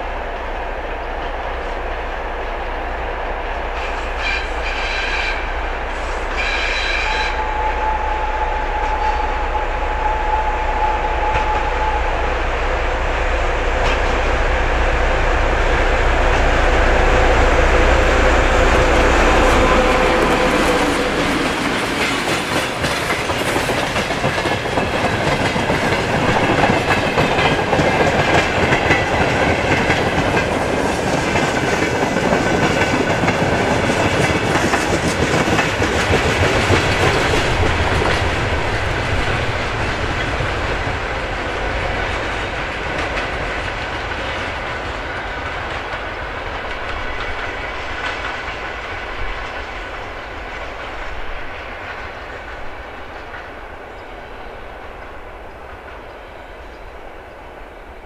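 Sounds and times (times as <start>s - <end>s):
freight train rolling on rails: 0.0s - 58.0s.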